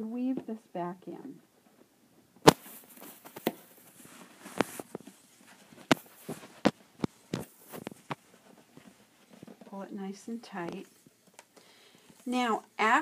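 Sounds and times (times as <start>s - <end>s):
fabric rustling: 2.4s - 13.0s.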